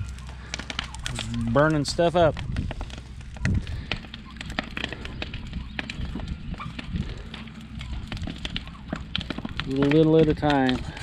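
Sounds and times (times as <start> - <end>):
bonfire crackling: 0.0 - 11.0.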